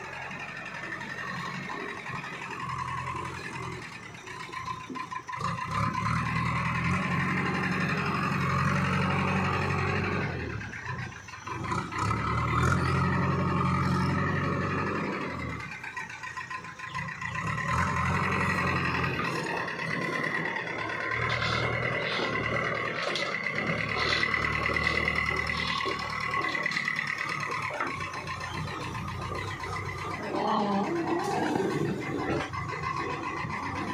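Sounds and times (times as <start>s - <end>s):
diesel engine revving under load: 0.0s - 33.9s.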